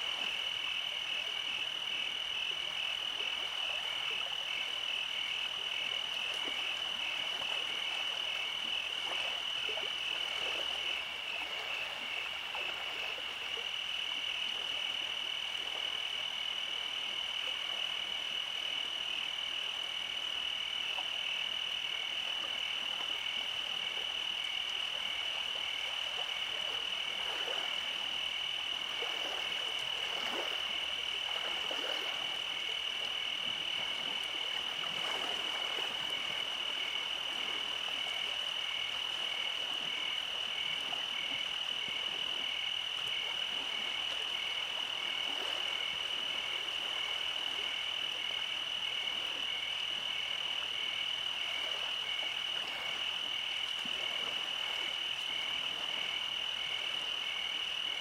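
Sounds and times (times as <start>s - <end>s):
frogs and insects calling: 0.0s - 58.0s.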